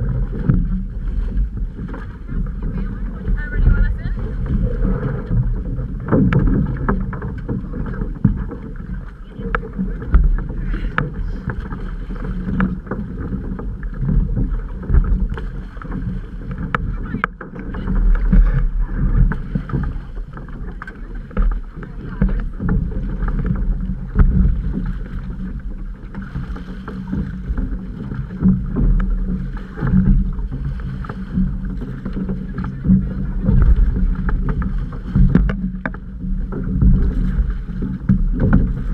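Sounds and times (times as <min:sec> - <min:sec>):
knocks against hull: 0:00.0 - 0:38.9
water rushing around canoe: 0:00.0 - 0:38.9.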